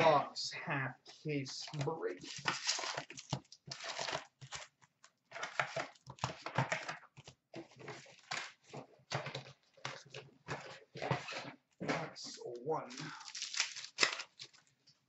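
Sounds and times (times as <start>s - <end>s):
card packs crinkling and rustling: 1.3s - 15.0s.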